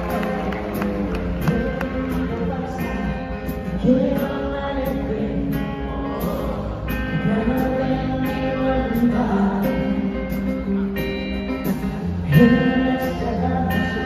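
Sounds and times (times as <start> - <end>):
person singing: 0.0 - 14.0
pop music with guitar: 0.0 - 14.0.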